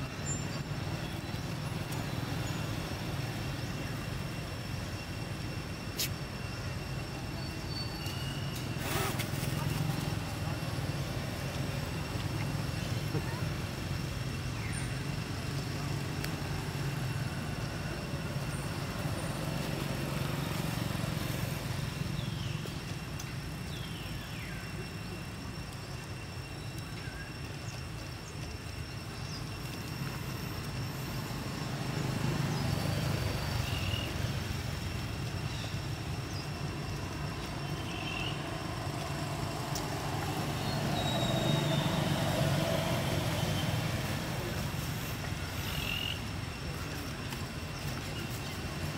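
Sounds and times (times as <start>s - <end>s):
low outdoor rumble: 0.0s - 48.9s.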